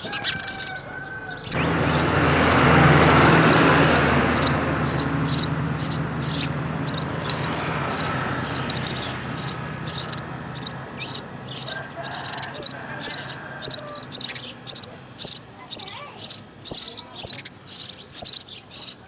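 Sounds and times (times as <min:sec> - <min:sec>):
passing motor vehicle rumble: 0:00.0 - 0:15.6
sparrows chirping: 0:00.0 - 0:19.0.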